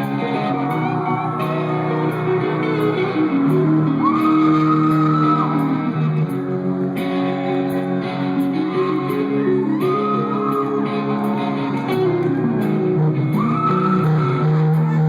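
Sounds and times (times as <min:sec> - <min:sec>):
live rock band playing: 0:00.0 - 0:13.7
electric guitar lead note sliding: 0:00.0 - 0:15.0.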